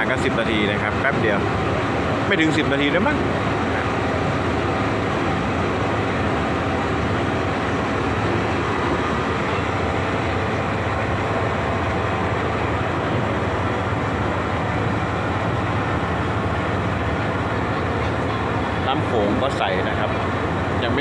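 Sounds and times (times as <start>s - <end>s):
boat engine droning: 0.0s - 21.0s
water rushing past boat: 0.0s - 21.0s.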